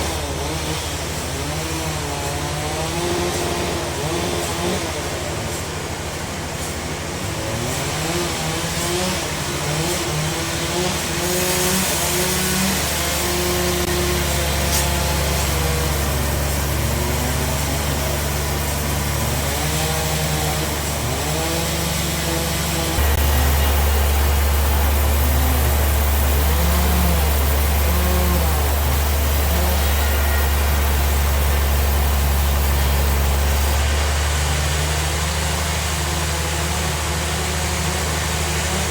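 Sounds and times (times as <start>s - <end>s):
bandsaw running with deep hum: 0.0s - 38.9s.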